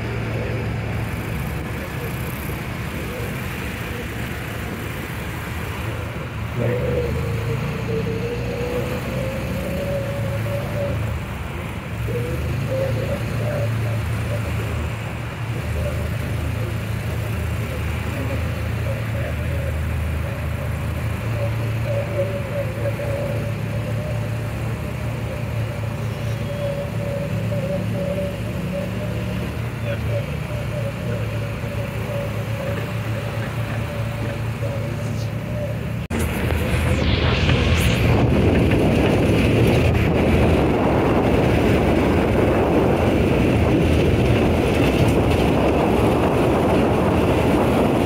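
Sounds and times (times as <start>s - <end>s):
engine whine: 0.0s - 48.0s
vehicle engine rumble: 0.0s - 48.0s.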